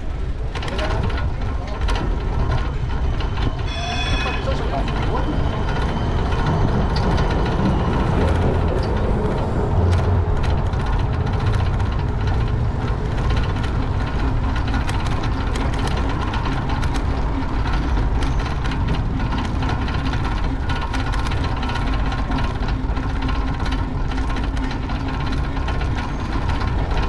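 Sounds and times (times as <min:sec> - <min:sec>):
bike clicks and rattles: 0:00.0 - 0:27.0
wind rumble on microphone: 0:00.0 - 0:27.0.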